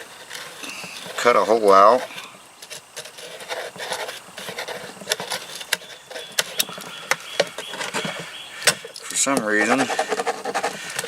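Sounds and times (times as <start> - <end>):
pen scratching and tapping on can: 0.3 - 8.3, 8.9 - 11.0.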